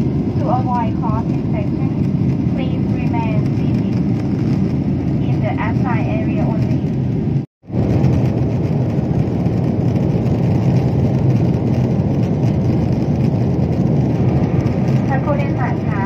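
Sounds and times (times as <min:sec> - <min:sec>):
airliner cabin engine rush: 0:00.0 - 0:16.0.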